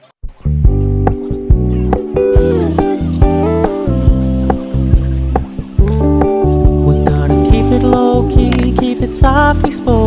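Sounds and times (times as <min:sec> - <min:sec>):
pop music with acoustic guitar: 0:01.0 - 0:10.0.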